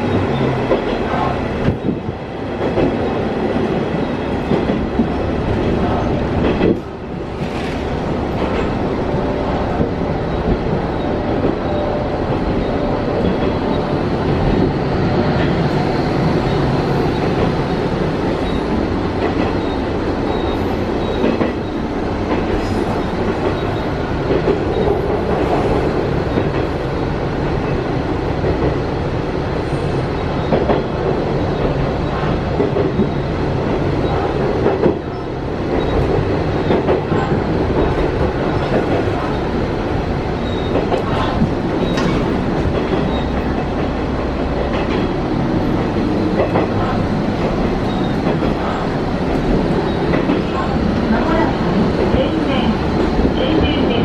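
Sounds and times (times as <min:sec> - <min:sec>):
railcar engine rumble: 0:00.0 - 0:54.0.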